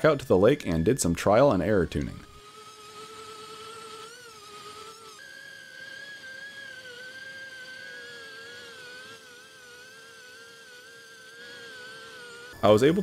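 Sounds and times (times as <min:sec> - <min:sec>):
electric motors and propellers whining: 0:00.0 - 0:13.0.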